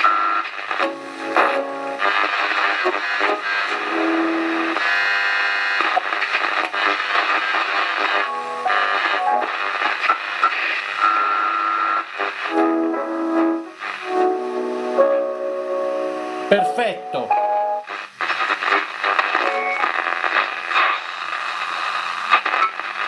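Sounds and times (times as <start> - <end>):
music through a small radio speaker: 0.0 - 23.0.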